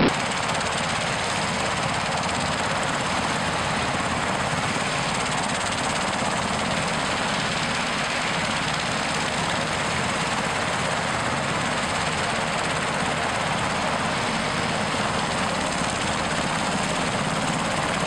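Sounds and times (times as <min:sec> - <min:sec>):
helicopter rotor and engine noise: 0:00.0 - 0:18.0.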